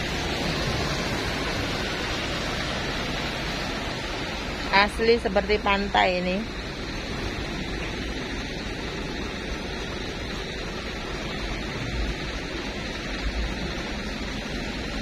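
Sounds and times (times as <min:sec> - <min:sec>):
floodwater rushing over road: 0:00.0 - 0:15.0.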